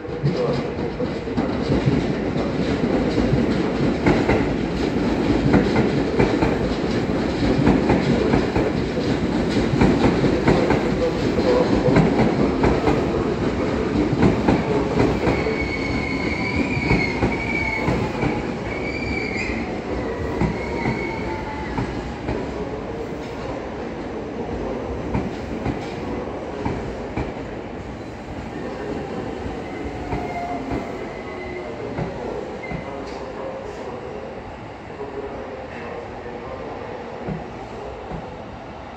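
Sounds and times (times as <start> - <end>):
train wheels rumbling: 0.0 - 34.2.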